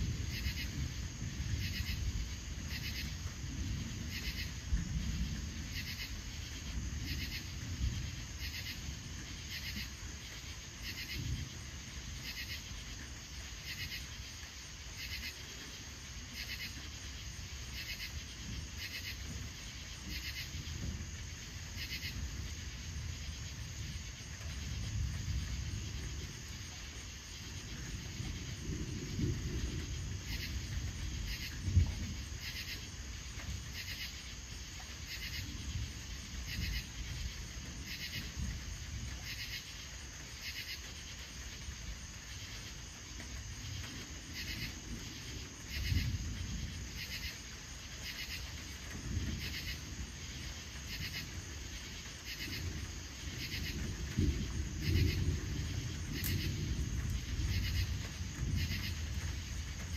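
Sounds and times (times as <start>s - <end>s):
crickets chirping: 0.0s - 59.9s
distant thunder rumbling: 0.0s - 59.9s.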